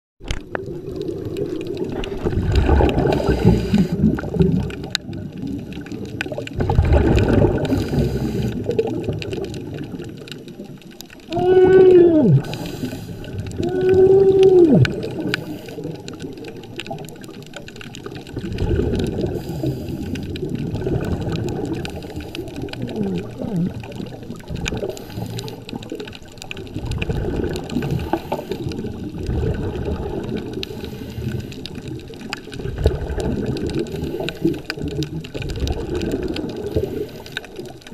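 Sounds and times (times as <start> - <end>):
muffled underwater bubbling: 0.2 - 37.9.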